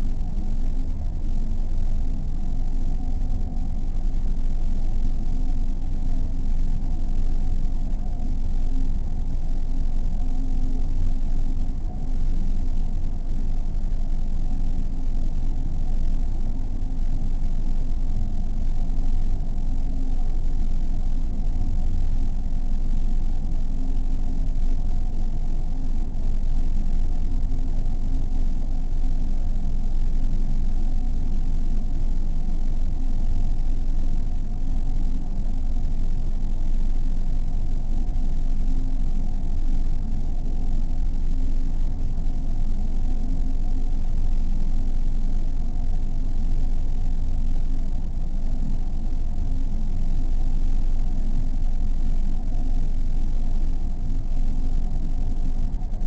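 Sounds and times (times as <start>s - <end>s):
low rumbling ambient drone: 0.0s - 56.0s.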